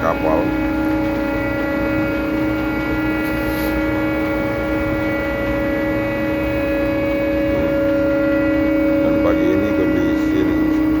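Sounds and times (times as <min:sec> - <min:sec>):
cargo machinery droning: 0:00.0 - 0:11.0.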